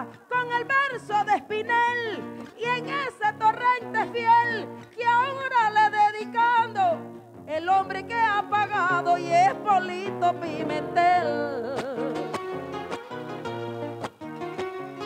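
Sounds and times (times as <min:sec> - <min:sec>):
person singing: 0:00.0 - 0:14.0
plucked strings: 0:00.0 - 0:15.0.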